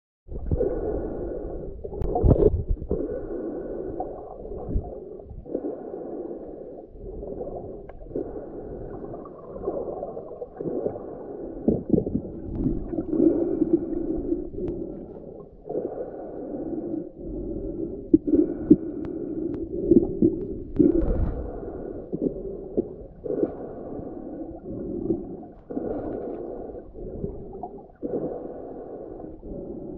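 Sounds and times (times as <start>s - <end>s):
muffled underwater water rush: 0.3s - 29.9s.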